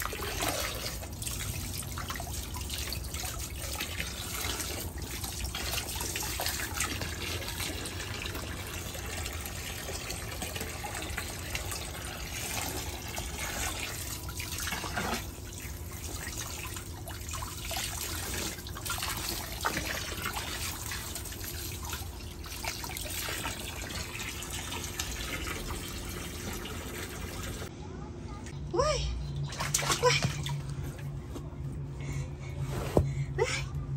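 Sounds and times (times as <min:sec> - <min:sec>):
hose water pouring into pool: 0:00.0 - 0:27.7.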